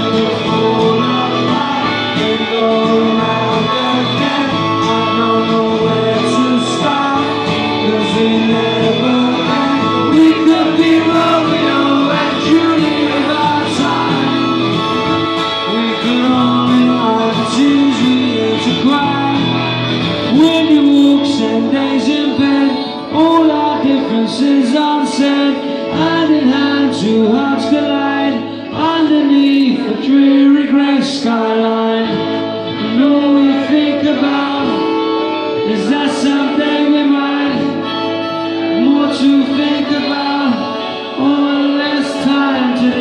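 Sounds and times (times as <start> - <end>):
electric guitar: 0.0 - 43.0
man singing: 0.0 - 43.0
strummed acoustic guitar: 0.0 - 43.0.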